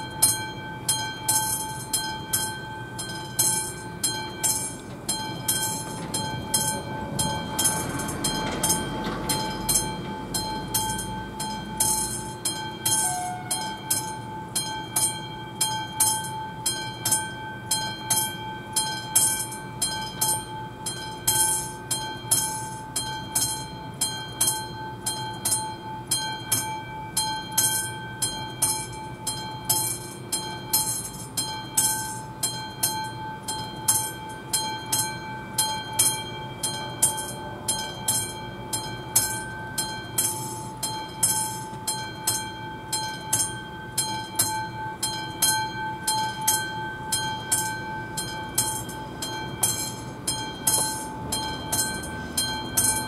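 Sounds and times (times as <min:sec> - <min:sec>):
level crossing bell ringing: 0:00.0 - 0:53.0.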